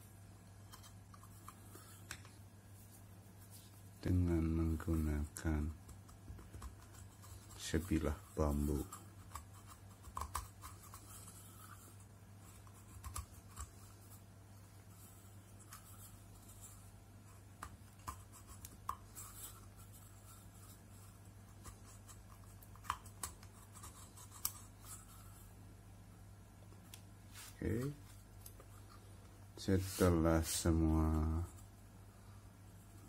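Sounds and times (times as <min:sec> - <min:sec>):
low steady hum: 0:00.0 - 0:33.0
faint scratching and small clicks: 0:00.6 - 0:25.6, 0:26.6 - 0:31.8.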